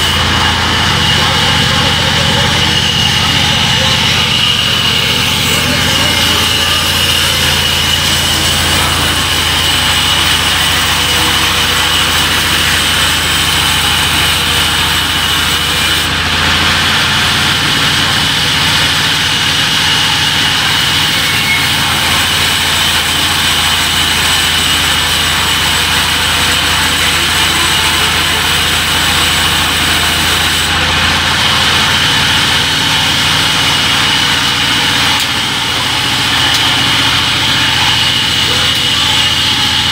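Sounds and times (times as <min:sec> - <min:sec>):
band saw hum and whine: 0:00.0 - 0:39.9.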